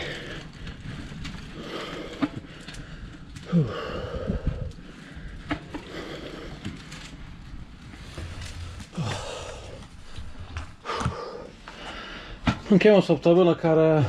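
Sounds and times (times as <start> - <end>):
person breathing: 0.0 - 0.8, 1.4 - 12.6.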